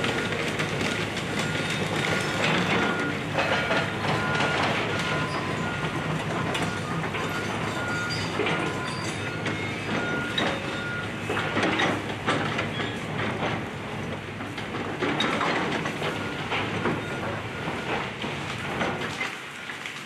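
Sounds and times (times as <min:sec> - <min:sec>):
excavator running under load: 0:00.0 - 0:20.0.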